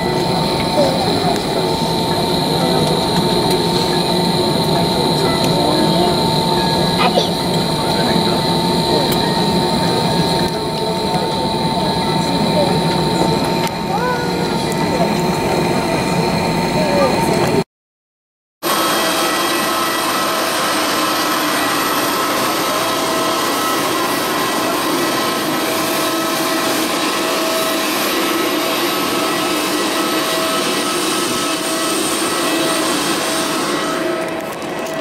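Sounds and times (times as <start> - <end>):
jet turbine whine: 0.0 - 17.7, 18.6 - 35.0.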